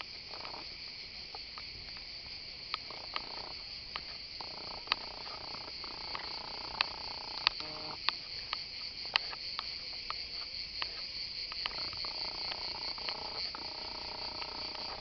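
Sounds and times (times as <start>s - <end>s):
cicadas buzzing: 0.0s - 15.0s
footsteps on dirt path: 0.0s - 15.0s.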